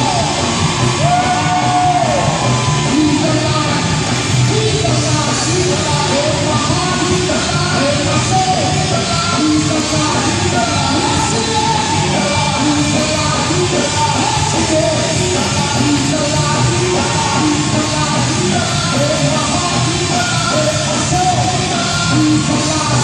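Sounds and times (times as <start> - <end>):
live rock band playing: 0.0 - 23.0
man singing into a microphone: 1.0 - 23.0.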